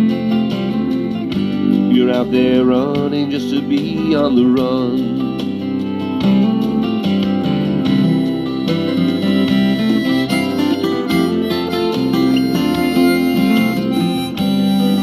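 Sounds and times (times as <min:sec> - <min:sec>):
acoustic guitar picking and strumming: 0:00.0 - 0:15.0.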